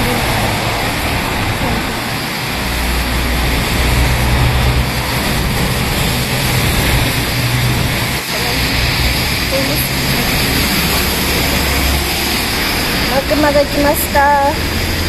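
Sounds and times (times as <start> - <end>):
city street traffic: 0.0 - 15.0
low engine hum: 0.0 - 15.0.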